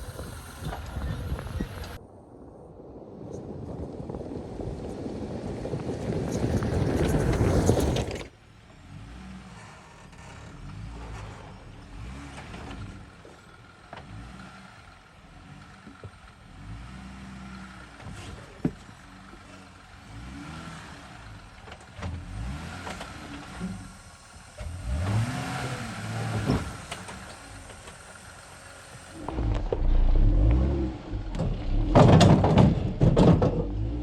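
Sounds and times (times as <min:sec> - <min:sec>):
off-road vehicle engine revving: 0:00.0 - 0:02.0, 0:08.7 - 0:34.0.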